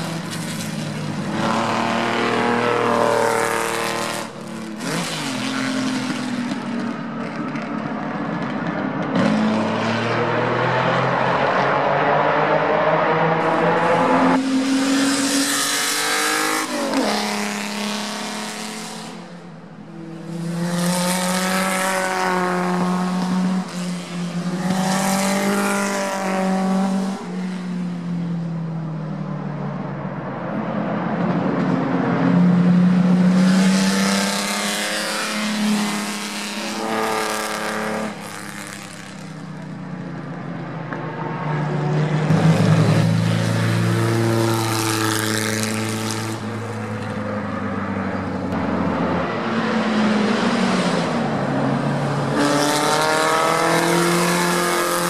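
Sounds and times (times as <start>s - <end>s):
racing cars passing: 0.0s - 55.0s.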